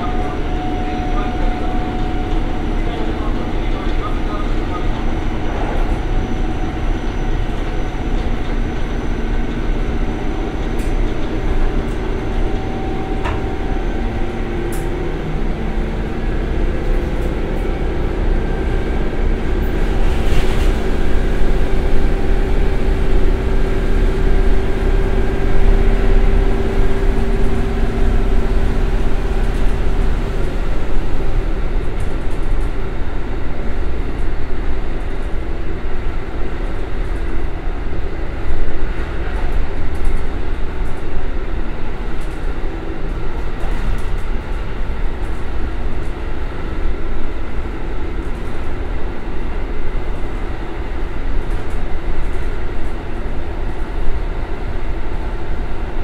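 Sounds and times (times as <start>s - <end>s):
diesel engine drone: 0.0s - 56.0s
train wheels on rails: 0.0s - 56.0s.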